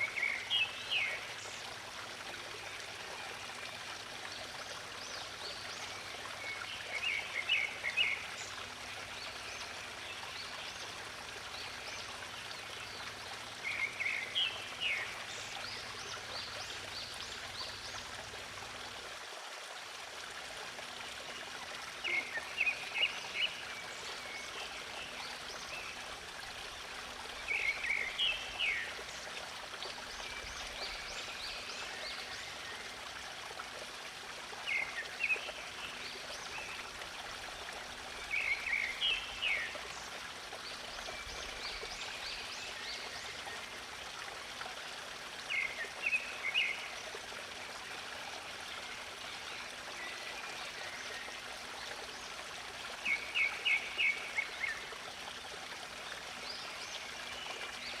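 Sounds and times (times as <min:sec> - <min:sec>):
stream running water: 0:00.0 - 0:58.0.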